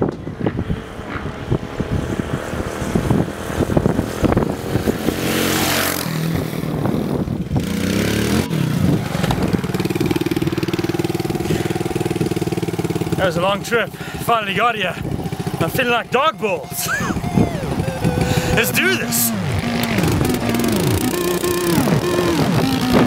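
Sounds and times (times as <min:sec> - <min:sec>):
motocross bike engine revving: 0:01.0 - 0:23.0.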